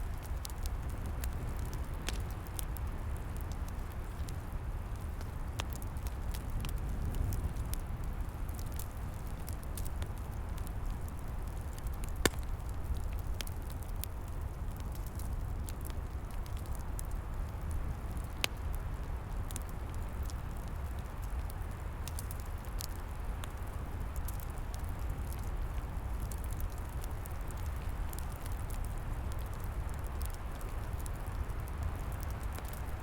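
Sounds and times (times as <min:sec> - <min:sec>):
low rumble of flames: 0:00.0 - 0:33.0
wind: 0:00.0 - 0:33.0
wood fire crackling: 0:00.0 - 0:33.0
sharp fire pops: 0:05.0 - 0:33.0.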